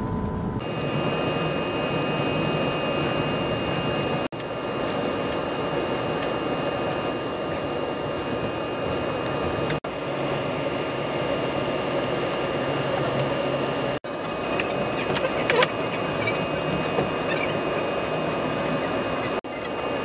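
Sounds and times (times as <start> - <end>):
faint high whine: 0.0 - 20.0
train running rumble: 0.0 - 20.0.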